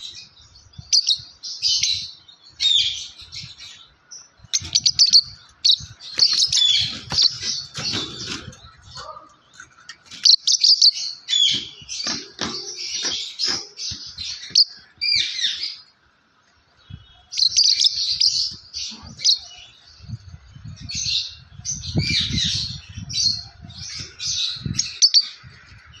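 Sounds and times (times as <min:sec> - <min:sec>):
lovebird chirping: 0:00.0 - 0:15.9, 0:16.8 - 0:25.5.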